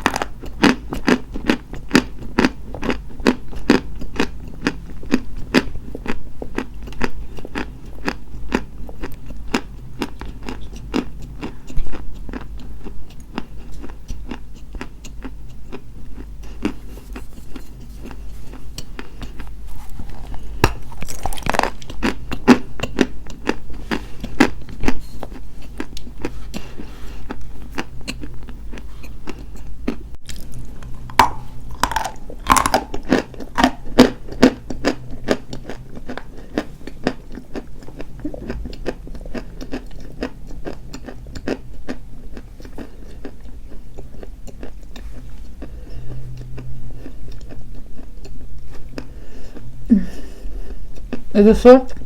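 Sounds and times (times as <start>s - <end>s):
chalk being chewed: 0.1s - 49.6s.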